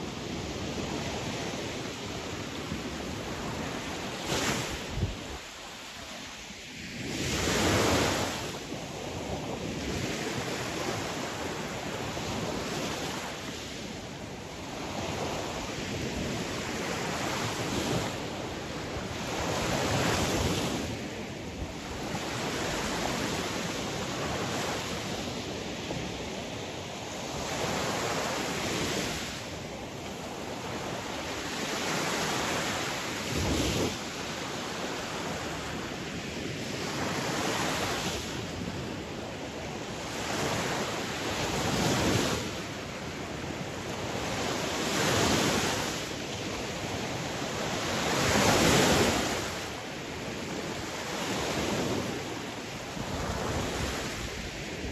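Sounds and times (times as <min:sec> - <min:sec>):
sea waves breaking ashore: 0:00.0 - 0:54.9.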